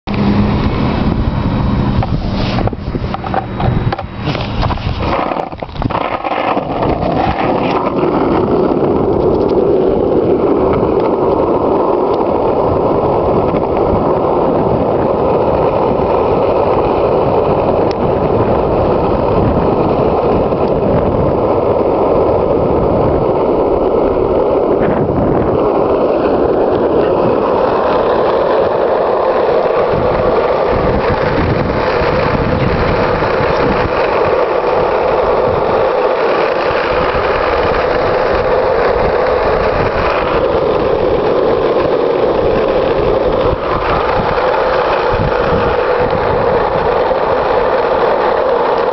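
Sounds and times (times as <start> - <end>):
skateboard wheels rolling on asphalt: 0.0 - 48.9.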